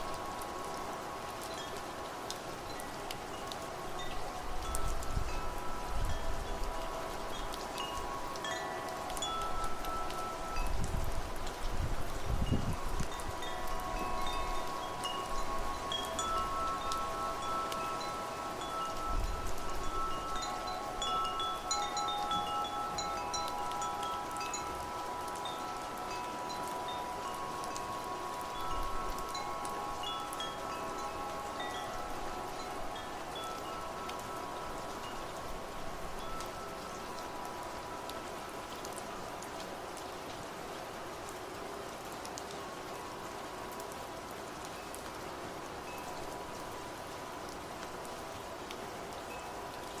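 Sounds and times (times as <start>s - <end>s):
wind chimes ringing: 0.0s - 40.7s, 41.7s - 50.0s
rushing wind: 0.0s - 41.9s.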